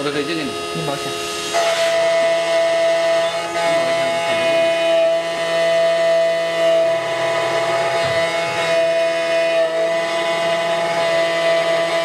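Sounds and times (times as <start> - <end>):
key cutting machine whining: 0.0 - 12.0.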